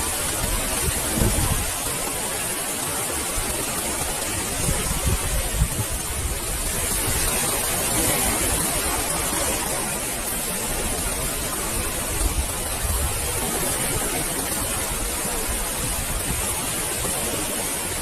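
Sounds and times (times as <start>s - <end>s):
ocean waves on a beach: 0.0s - 18.0s.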